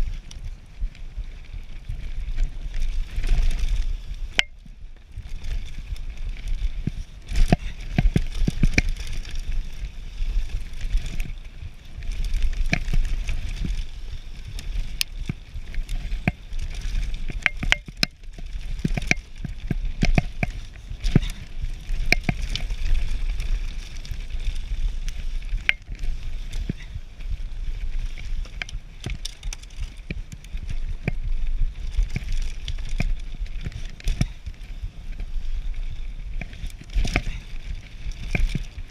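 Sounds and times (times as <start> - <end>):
bike tyres rumbling on dirt: 0.0 - 38.9
bike clattering over bumps: 2.4 - 34.5.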